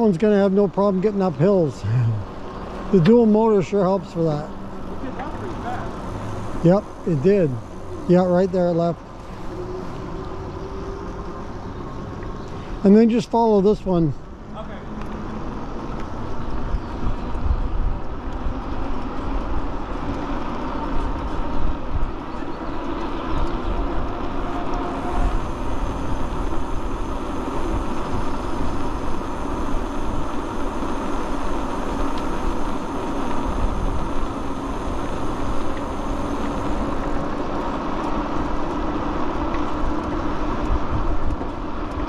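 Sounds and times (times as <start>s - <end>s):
tyres rumbling on asphalt: 0.0s - 42.0s
wind buffeting microphone: 0.0s - 42.0s.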